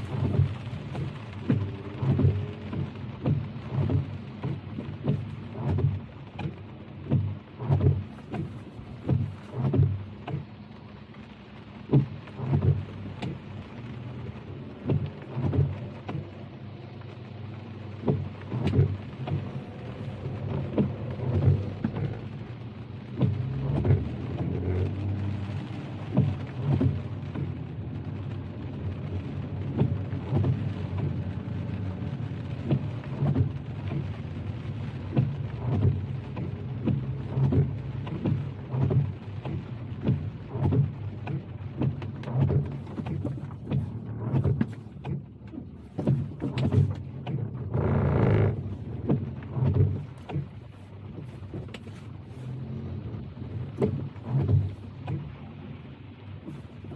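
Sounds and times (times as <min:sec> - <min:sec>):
car driving on wet road: 0:00.0 - 0:56.9
rain tapping on car windshield: 0:00.0 - 0:56.9.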